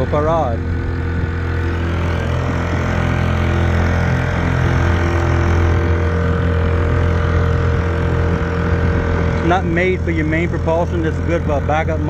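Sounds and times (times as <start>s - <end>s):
outboard engine running: 0.0s - 12.0s.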